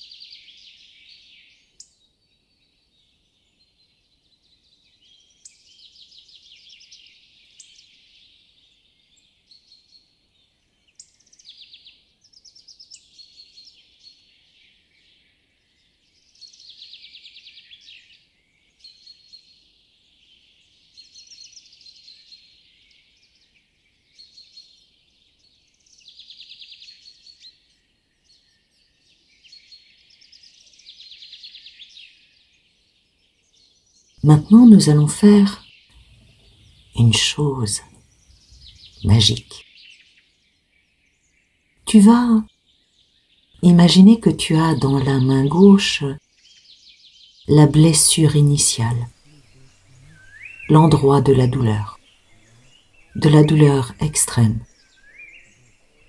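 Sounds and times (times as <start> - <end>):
faint birdsong trills: 0.0 - 56.0
outdoor ambience hiss: 0.0 - 56.0.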